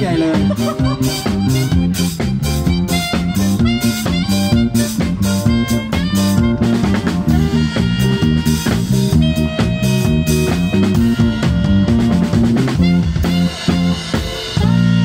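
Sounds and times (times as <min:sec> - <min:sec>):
drum kit steady beat: 0:00.0 - 0:15.0
electric bass line: 0:00.0 - 0:15.0
guitar: 0:00.0 - 0:15.0.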